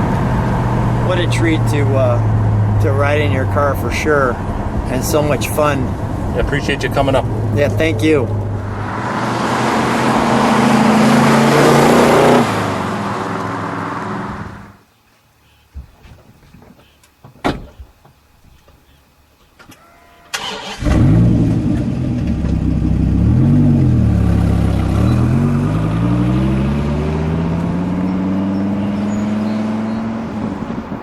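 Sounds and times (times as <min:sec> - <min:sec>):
car engine starting and revving: 0:00.0 - 0:14.8, 0:20.4 - 0:31.0.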